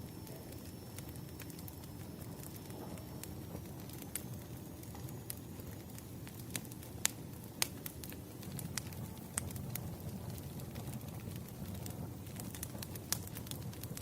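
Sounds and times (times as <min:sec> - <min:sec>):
fire crackling and popping: 0:00.0 - 0:14.0
low rush of flame: 0:00.0 - 0:14.0.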